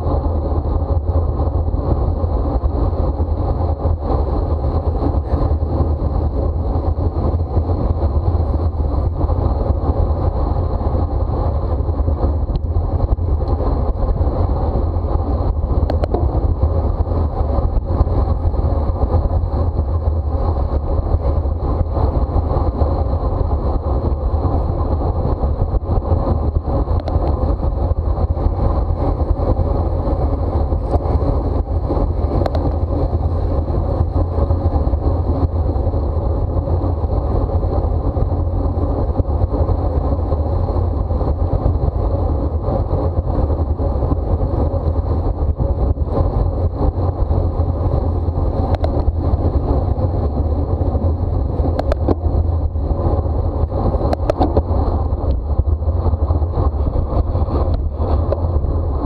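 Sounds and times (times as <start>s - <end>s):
deep rumble: 0.0s - 59.0s
wind rush on microphone: 0.0s - 59.0s.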